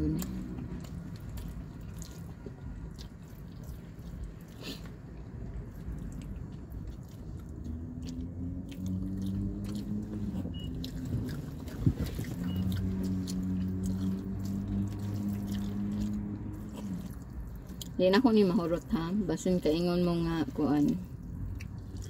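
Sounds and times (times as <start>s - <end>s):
people chewing noodles: 0.0s - 19.6s, 20.2s - 22.0s
low steady hum: 0.0s - 22.0s.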